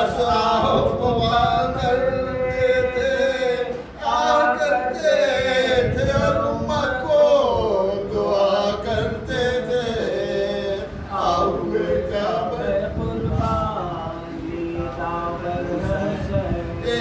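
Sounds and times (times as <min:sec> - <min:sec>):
man chanting unaccompanied: 0:00.0 - 0:17.0.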